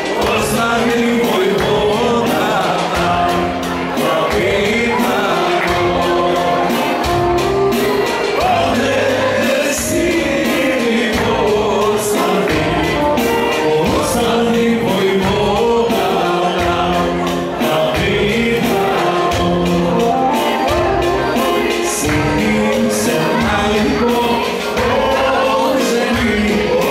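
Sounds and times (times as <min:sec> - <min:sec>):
folk song with singer and instruments: 0:00.0 - 0:26.9.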